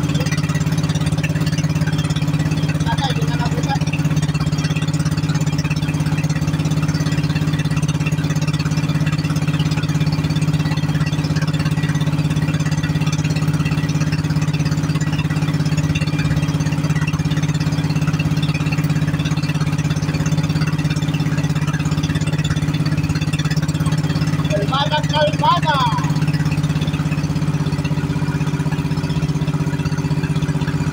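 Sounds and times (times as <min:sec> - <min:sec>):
small boat engine humming: 0:00.0 - 0:30.9.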